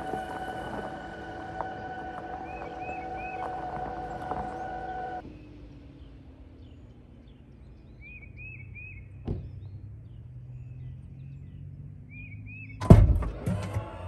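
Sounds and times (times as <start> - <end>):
songbirds chirping: 0.0 - 12.9.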